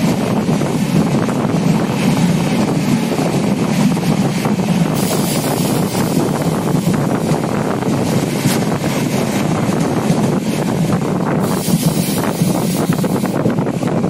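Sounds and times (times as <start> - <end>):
train wheels rumbling on rails: 0.0 - 14.0
wind buffeting microphone: 0.0 - 14.0.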